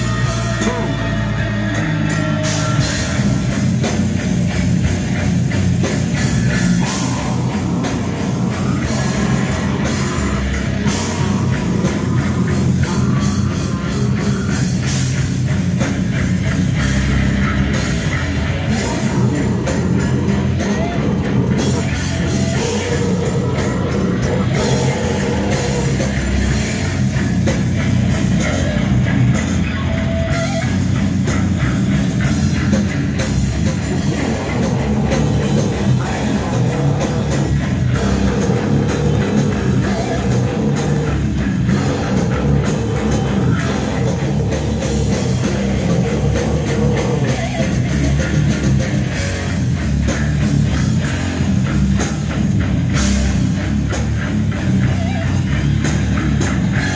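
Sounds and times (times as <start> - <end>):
heavy metal band playing live: 0.0 - 56.9.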